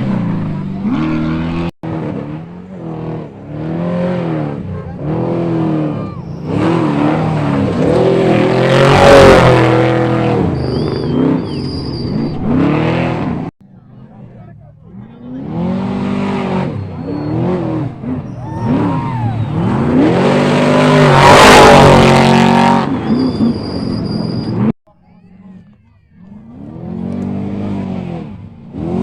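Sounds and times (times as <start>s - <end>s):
racing truck engines revving: 0.0s - 29.0s.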